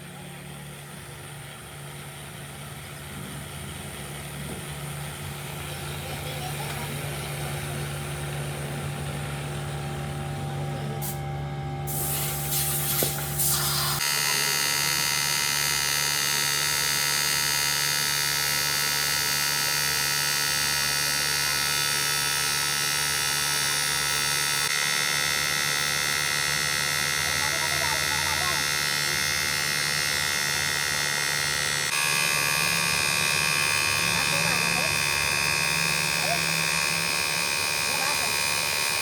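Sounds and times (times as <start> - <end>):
machine buzzing whine: 0.0 - 39.0
machine humming: 0.0 - 39.0.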